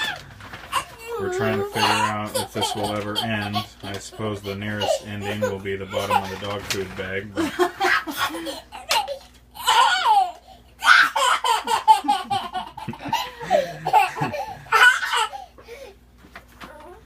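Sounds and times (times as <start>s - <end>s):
child laughing: 0.0s - 6.6s, 7.4s - 15.6s.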